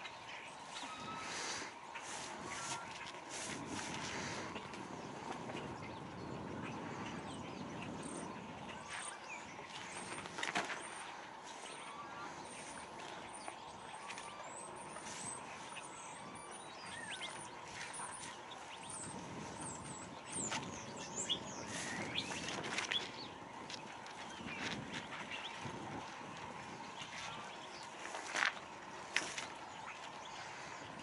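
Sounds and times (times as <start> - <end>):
low outdoor rumble: 0.0 - 31.0
small birds chirping: 0.0 - 31.0.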